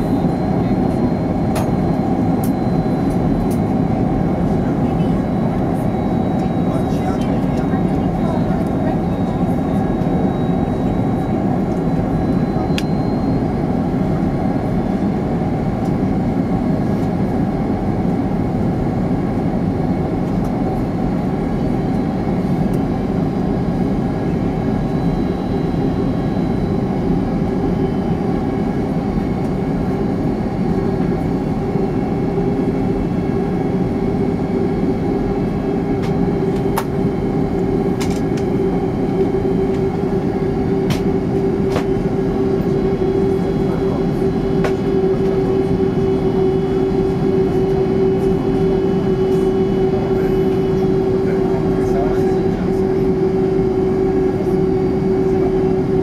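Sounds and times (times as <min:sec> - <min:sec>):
aircraft cabin engine noise: 0:00.0 - 0:56.0.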